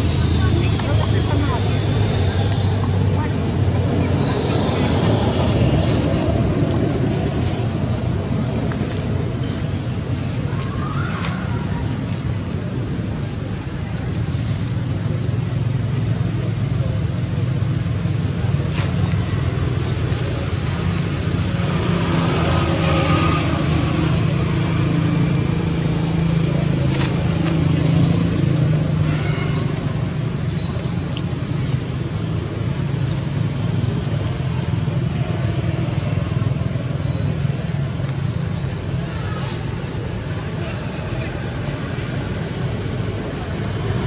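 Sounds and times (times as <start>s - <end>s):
faint voices: 0.0s - 44.0s
low engine rumble: 0.0s - 44.0s.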